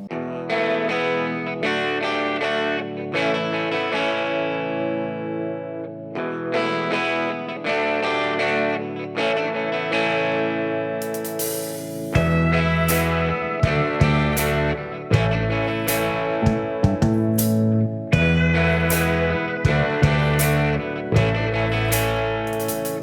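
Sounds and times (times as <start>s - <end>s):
guitar chords through effects: 0.0s - 23.0s.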